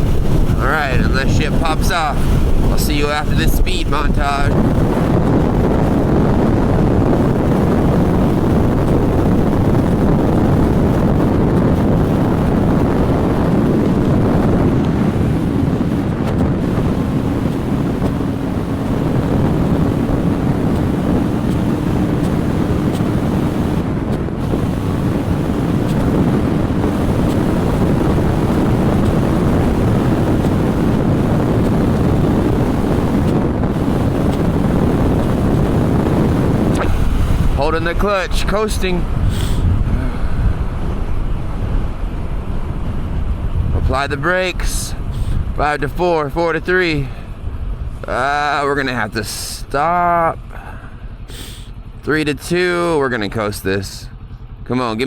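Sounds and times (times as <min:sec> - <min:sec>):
faint motorcycle engine: 0:00.0 - 0:55.0
wind rushing over microphone: 0:00.0 - 0:55.0.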